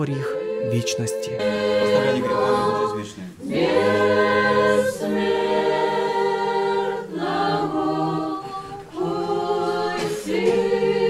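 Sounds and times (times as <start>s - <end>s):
choir singing chant a cappella: 0.0s - 11.0s.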